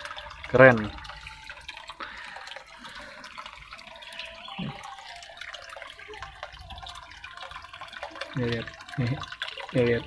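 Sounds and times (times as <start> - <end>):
water splashing into pond: 0.0 - 10.0.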